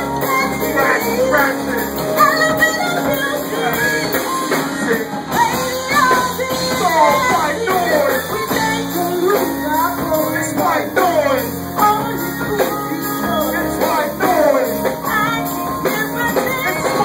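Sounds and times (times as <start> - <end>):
guitar: 0.0 - 17.0
live band instrumental: 0.0 - 17.0.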